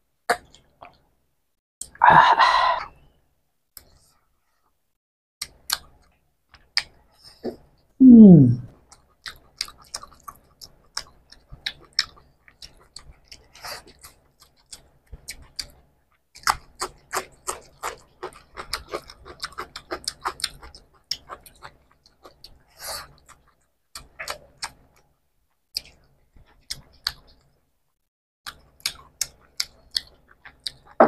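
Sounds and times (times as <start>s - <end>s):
people chewing food: 0.3s - 1.1s, 5.4s - 27.6s, 28.4s - 31.0s.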